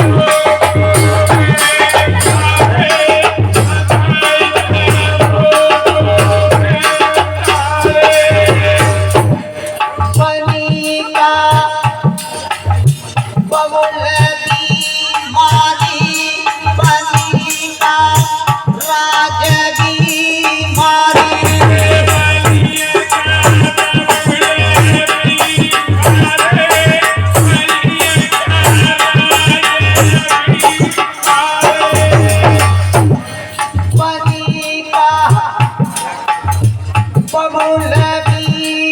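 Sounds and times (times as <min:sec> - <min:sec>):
drum beat: 0:00.0 - 0:38.9
rattling percussion: 0:00.0 - 0:38.9.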